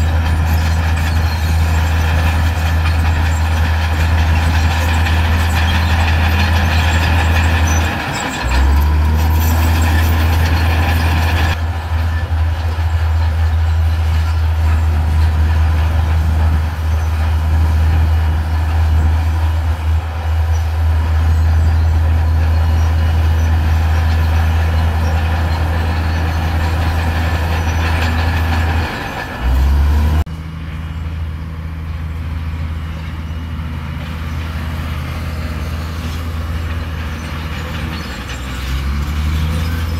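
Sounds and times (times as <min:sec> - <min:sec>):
heavy diesel machinery engine drone: 0:00.0 - 0:39.9.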